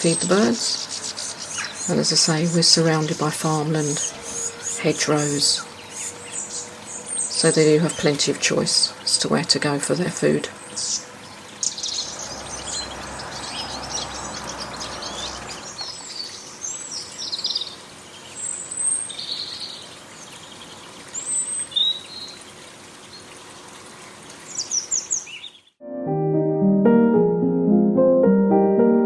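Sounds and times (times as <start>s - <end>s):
small birds chirping: 0.0s - 25.8s.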